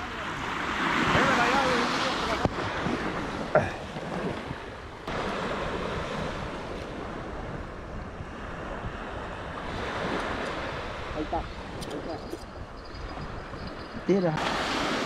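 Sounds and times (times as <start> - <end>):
sea surf washing in: 0.0 - 15.0
wind noise on microphone: 0.0 - 15.0.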